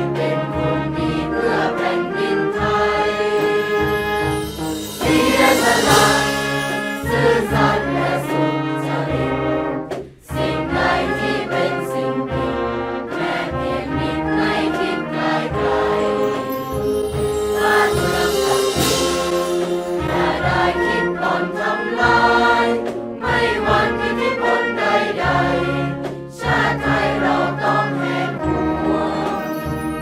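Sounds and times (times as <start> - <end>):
brass band playing: 0.0 - 30.0
choir singing in unison: 0.0 - 30.0.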